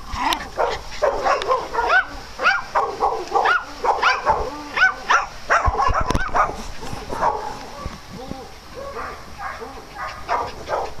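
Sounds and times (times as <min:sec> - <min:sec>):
small dogs yapping: 0:00.1 - 0:11.0.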